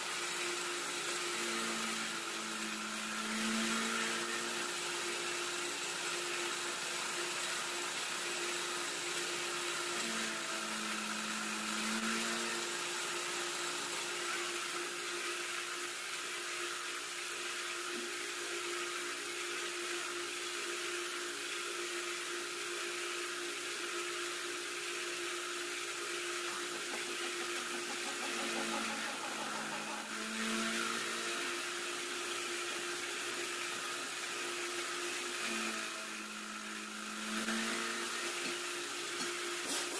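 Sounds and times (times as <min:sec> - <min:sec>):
boring machine hum: 0:00.0 - 0:39.6.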